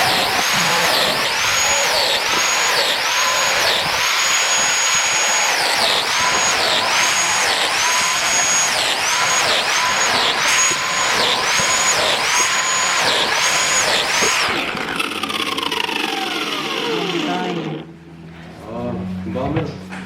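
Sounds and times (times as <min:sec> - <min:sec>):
woodworking power tool whining: 0:00.0 - 0:20.0.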